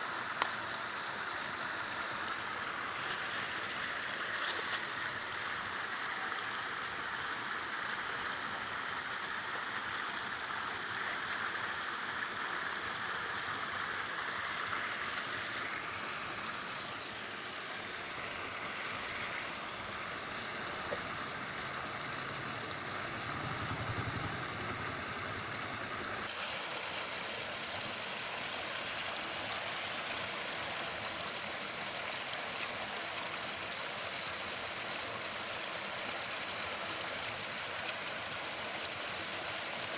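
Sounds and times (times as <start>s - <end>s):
rushing water hiss: 0.0s - 39.9s.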